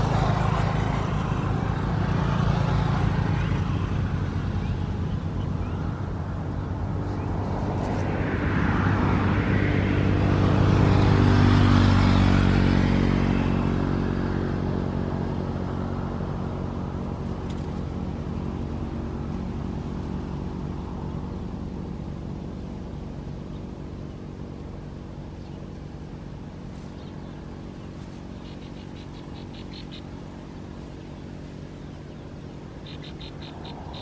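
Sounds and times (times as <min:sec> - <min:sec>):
vehicle engine passing by: 0:00.0 - 0:34.0.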